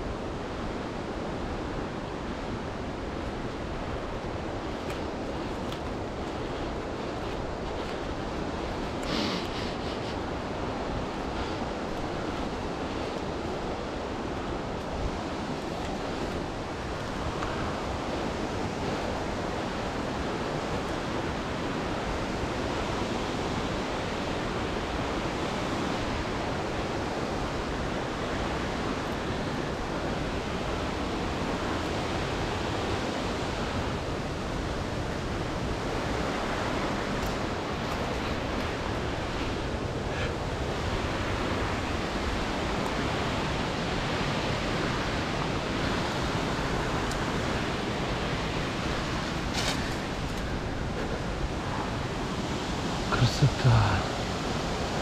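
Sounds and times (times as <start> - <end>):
fast-flowing water rushing: 0.0 - 55.0.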